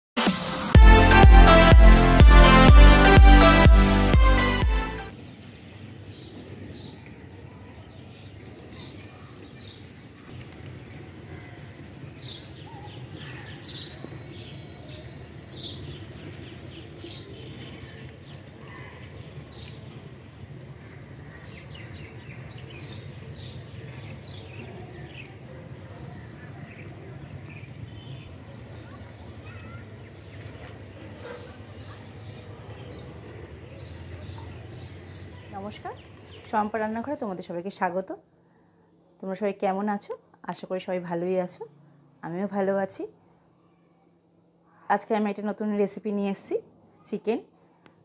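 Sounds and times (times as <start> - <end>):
birds chirping: 0.7 - 39.2.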